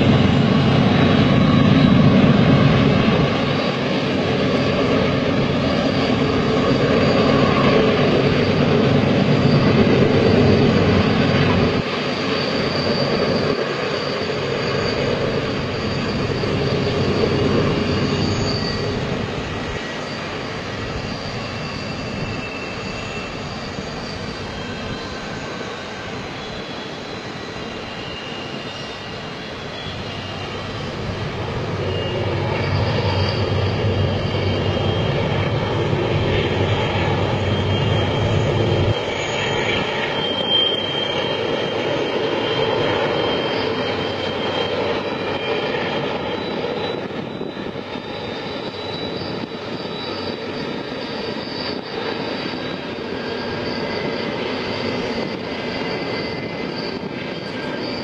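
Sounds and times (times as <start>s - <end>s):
train rumbling past: 0.0s - 58.0s.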